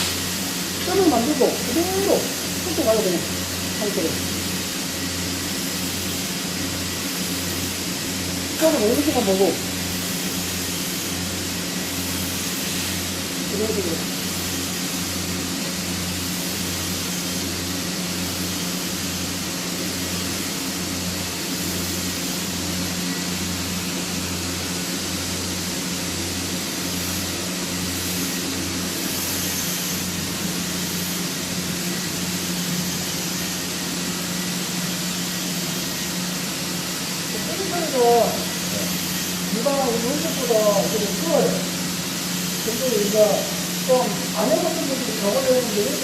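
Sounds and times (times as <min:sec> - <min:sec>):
electrical hum: 0:00.0 - 0:46.0
welding arc hissing: 0:00.0 - 0:46.0.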